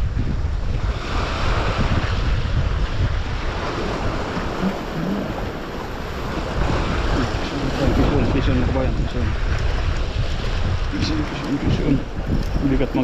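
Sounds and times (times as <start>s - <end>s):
sea waves surging over rocks: 0.0s - 13.0s
wind buffeting microphone: 0.0s - 13.0s.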